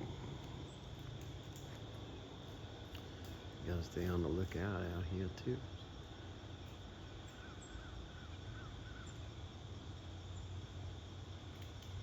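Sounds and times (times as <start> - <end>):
faint hiss: 0.0 - 12.0
insect drone: 0.0 - 12.0.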